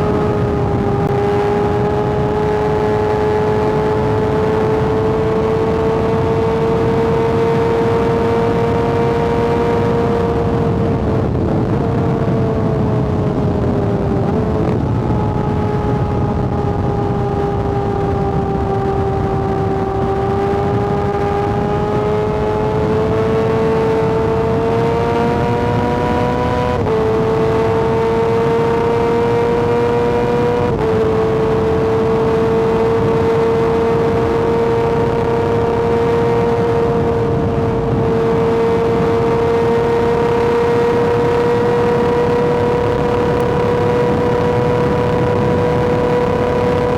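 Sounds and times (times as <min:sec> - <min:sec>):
motorcycle engine at high revs: 0:00.0 - 0:46.9
wind and road noise: 0:00.0 - 0:46.9.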